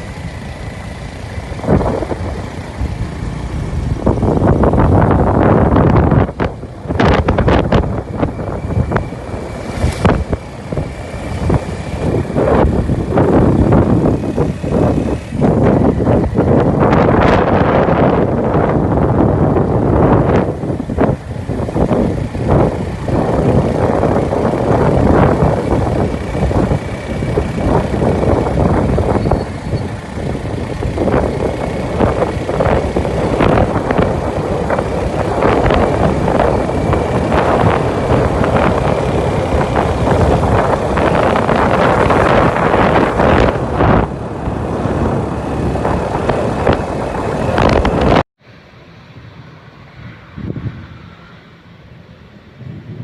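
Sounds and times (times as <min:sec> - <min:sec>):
wind buffeting microphone: 0:00.0 - 0:48.3, 0:49.2 - 0:53.0.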